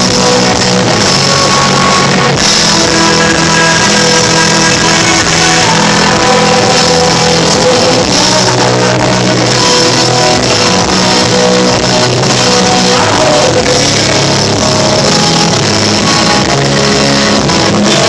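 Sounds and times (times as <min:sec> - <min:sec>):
electric guitar: 0:00.0 - 0:18.0
rock band playing: 0:00.0 - 0:18.0.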